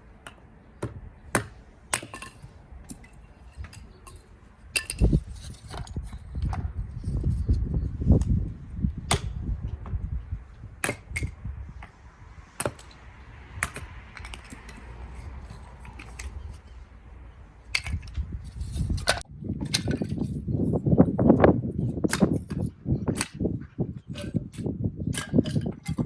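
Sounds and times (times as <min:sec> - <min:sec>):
wind buffeting microphone: 0:02.4 - 0:26.0.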